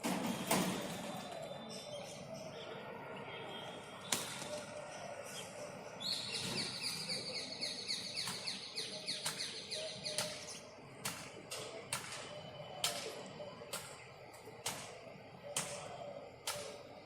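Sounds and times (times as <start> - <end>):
myna birds chirping: 1.0 - 17.0.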